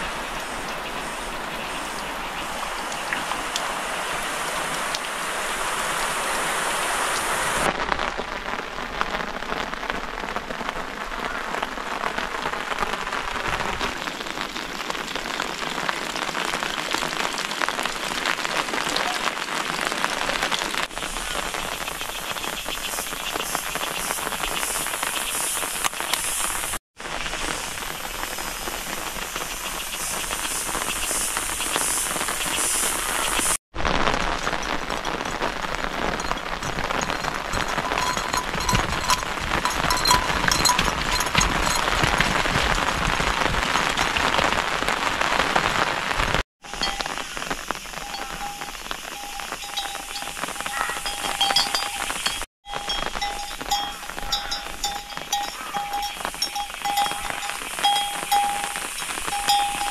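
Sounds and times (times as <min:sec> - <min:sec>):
raindrops pattering on surfaces: 0:00.0 - 0:59.9
steady rain falling: 0:00.0 - 0:59.9.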